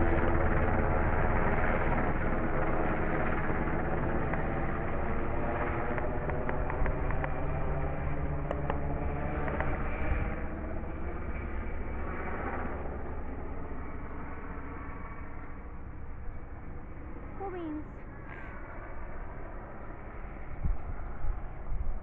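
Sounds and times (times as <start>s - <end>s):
helicopter flying over: 0.0s - 22.0s.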